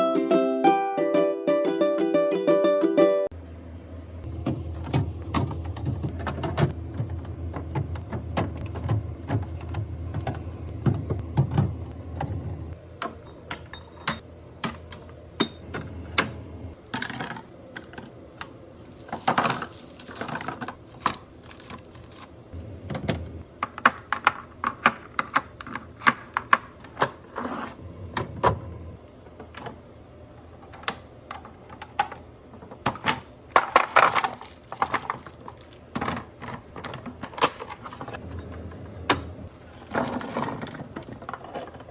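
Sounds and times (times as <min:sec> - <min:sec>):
food containers clicking and knocking: 0:04.3 - 0:27.3, 0:30.5 - 0:41.9.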